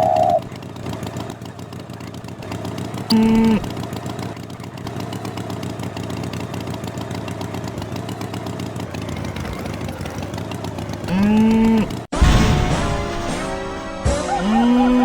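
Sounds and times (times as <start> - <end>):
small engine running: 0.0 - 12.1.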